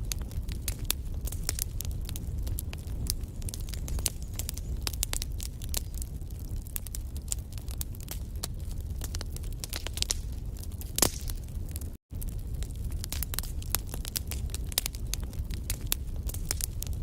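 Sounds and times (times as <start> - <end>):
burning logs popping: 0.0 - 17.0
low rumble of flames: 0.0 - 17.0
wood fire crackling: 0.0 - 17.0.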